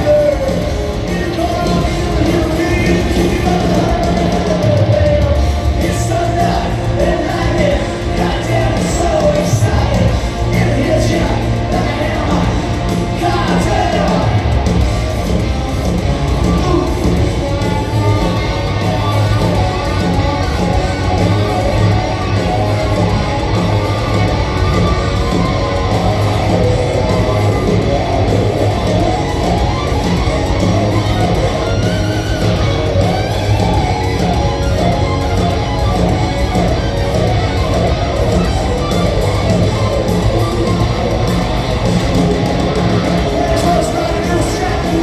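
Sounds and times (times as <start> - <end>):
hard rock band playing live: 0.0 - 45.0.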